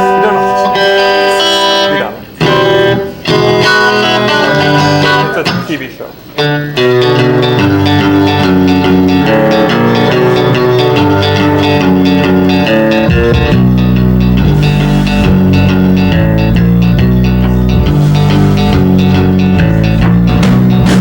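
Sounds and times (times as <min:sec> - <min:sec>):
bass guitar: 0:00.0 - 0:05.8, 0:06.4 - 0:21.0
picked electric guitar notes: 0:00.0 - 0:21.0.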